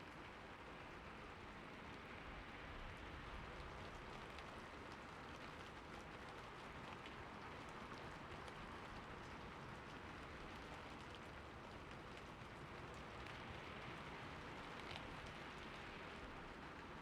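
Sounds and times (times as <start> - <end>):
steady rain hiss: 0.1 - 17.0.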